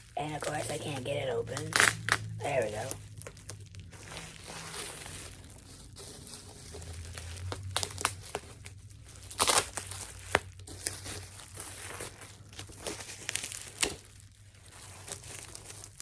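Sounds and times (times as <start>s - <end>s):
packing material crinkling: 0.0s - 16.0s.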